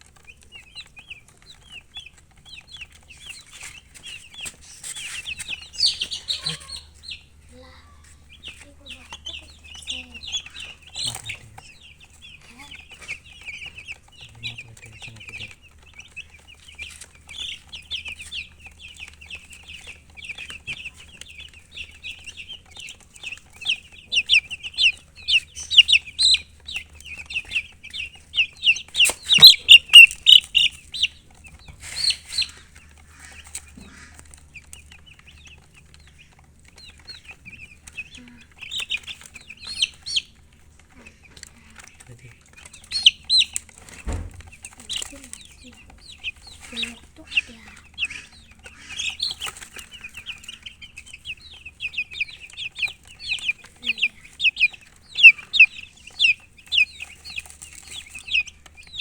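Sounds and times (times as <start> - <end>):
baby chicks peeping: 0.0 - 59.0.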